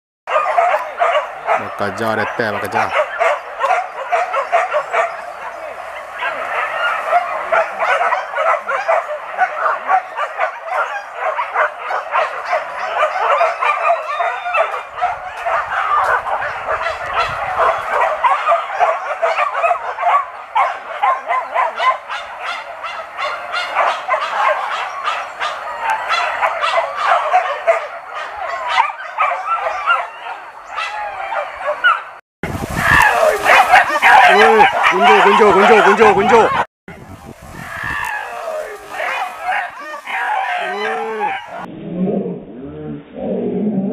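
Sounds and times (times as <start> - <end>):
dogs yelping and whining: 0.3 - 32.1, 32.8 - 36.6, 37.7 - 41.7.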